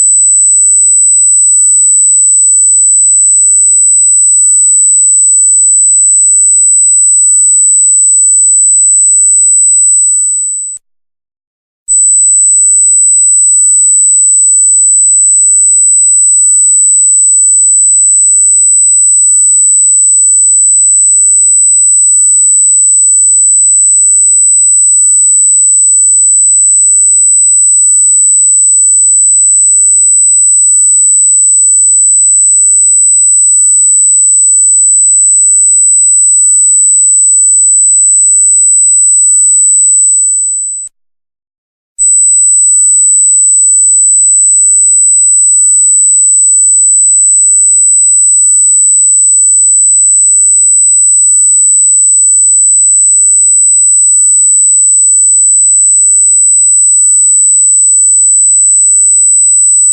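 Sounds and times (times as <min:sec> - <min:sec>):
high electronic sine tone: 0:00.0 - 0:10.8, 0:11.9 - 0:41.0, 0:42.0 - 0:59.9.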